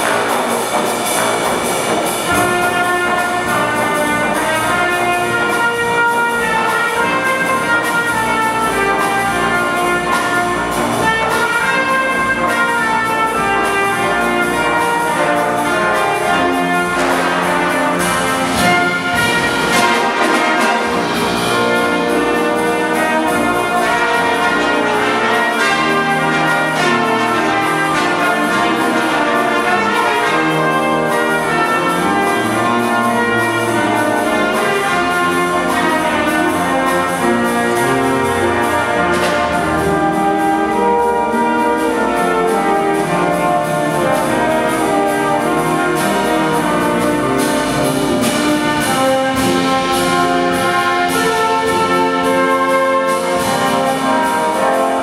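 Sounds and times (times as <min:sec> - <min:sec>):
brass ensemble playing chords: 0:00.0 - 0:55.0.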